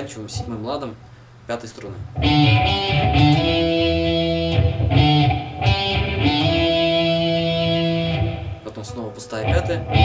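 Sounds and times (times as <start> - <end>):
guitar playing slow riff: 1.9 - 10.0.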